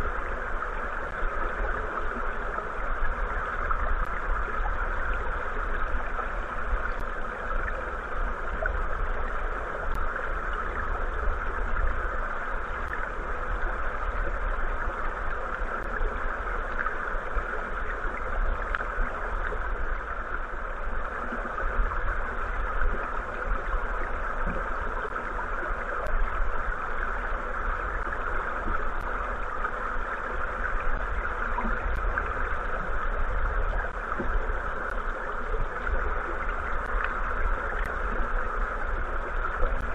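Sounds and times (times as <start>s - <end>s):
muffled underwater river rush: 0.0s - 39.9s.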